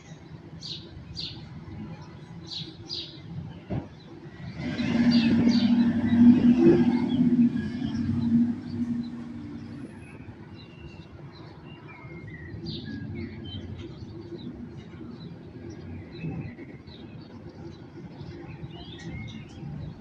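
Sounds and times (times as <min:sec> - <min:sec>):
distant city traffic: 0:00.0 - 0:20.0
small birds chirping: 0:00.0 - 0:20.0.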